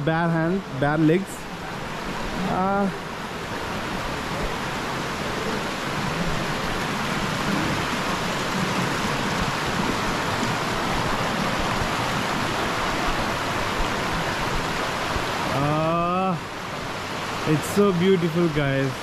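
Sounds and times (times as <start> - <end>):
stream rushing over stones: 0.0 - 19.0.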